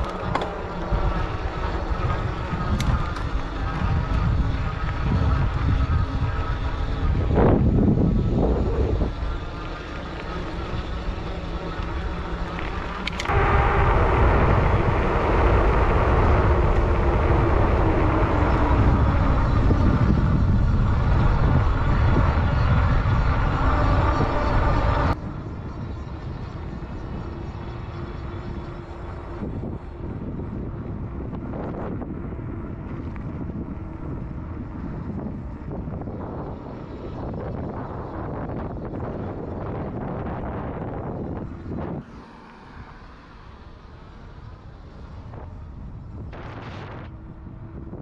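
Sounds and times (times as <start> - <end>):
tyres rolling on pavement: 0.0 - 48.0
wind rushing over microphone: 0.0 - 48.0.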